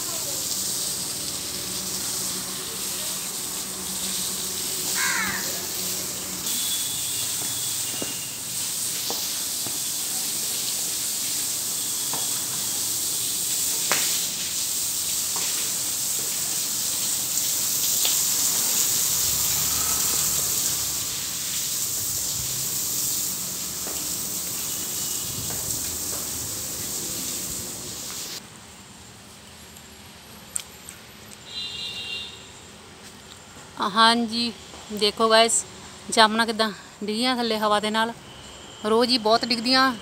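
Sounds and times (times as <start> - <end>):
hose water on wet paving: 0.0 - 40.0.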